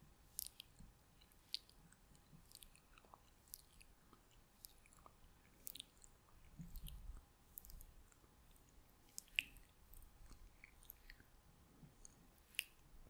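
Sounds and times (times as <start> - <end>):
wet mouth clicks: 0.3 - 11.3, 12.0 - 12.9.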